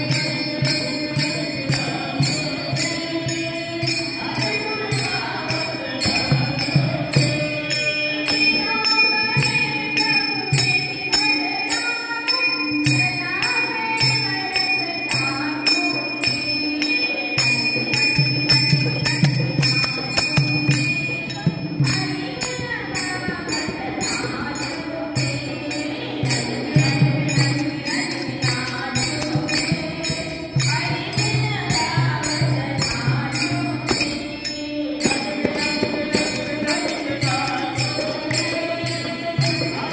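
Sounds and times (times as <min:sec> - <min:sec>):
small hand cymbals clashing: 0:00.0 - 0:39.9
woman singing devotional song: 0:00.0 - 0:39.9.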